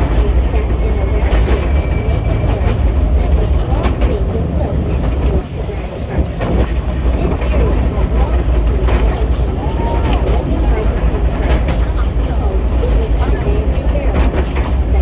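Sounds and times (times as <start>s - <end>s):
train wheels rumbling on rails: 0.0s - 15.0s
wheels squealing on rails: 0.0s - 15.0s.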